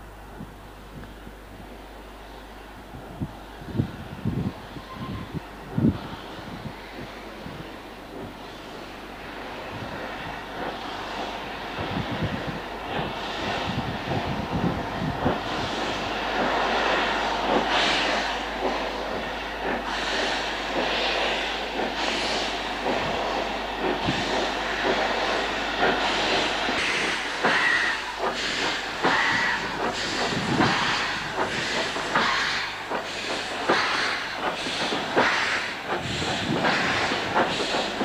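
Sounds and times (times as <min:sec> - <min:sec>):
steam locomotive exhaust beats: 0:00.0 - 0:38.0
steam hissing: 0:02.2 - 0:38.0.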